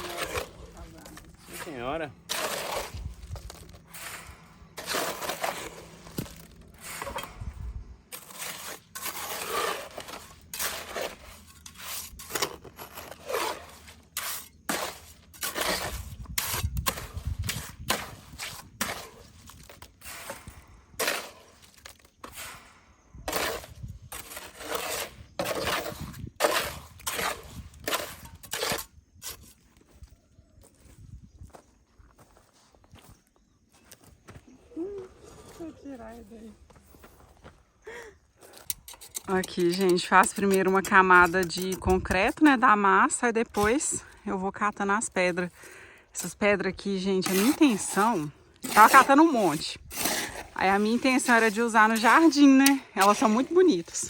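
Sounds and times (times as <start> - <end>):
tool scraping wet mortar: 0.0 - 29.8, 38.4 - 54.0.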